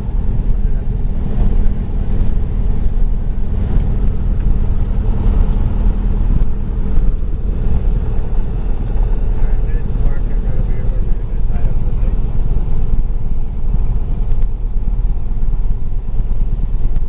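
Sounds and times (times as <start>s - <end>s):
aircraft engines droning: 0.0s - 17.0s.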